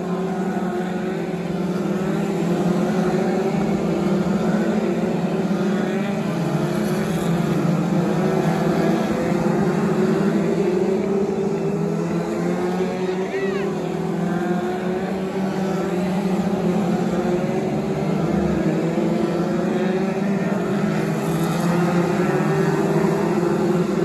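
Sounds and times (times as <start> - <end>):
racing car engines: 0.0 - 24.0.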